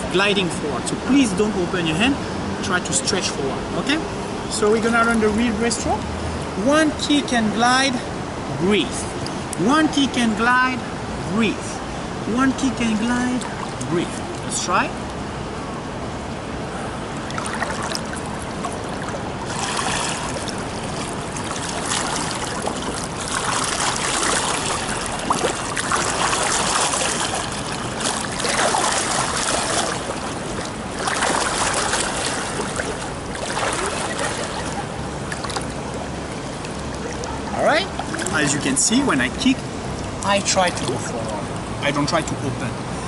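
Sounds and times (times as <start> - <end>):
pool water splashing: 0.0 - 43.0.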